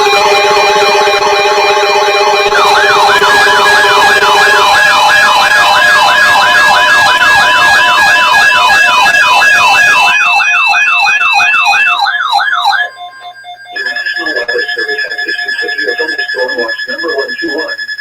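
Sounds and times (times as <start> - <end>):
high alert tone: 0.0 - 18.0
rising siren-like sweeps: 0.0 - 18.0
steady warning tones: 0.0 - 18.0.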